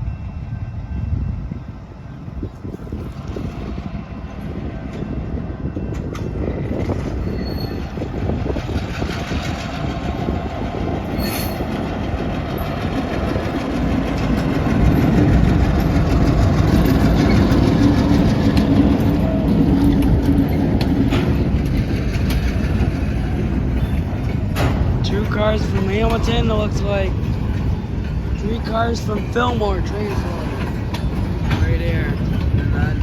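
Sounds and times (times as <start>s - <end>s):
diesel locomotive engine tone: 0.0s - 33.0s
freight train passing: 0.0s - 33.0s.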